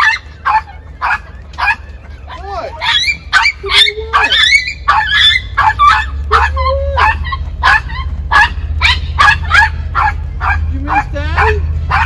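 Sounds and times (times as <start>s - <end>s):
dog whining: 0.0s - 10.1s
dog barking excitedly: 0.0s - 12.0s.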